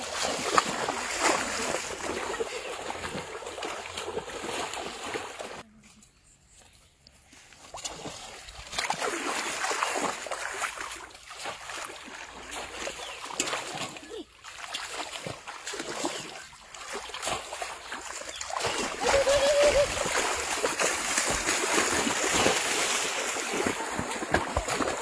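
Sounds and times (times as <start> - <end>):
water splashing from wading: 0.0 - 5.6, 7.6 - 25.0.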